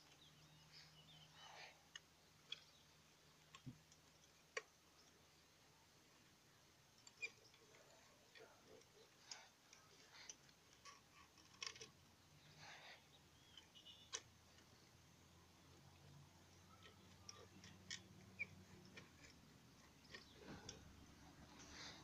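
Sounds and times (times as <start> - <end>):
faint clicks and ticks of toy: 0.0 - 22.0.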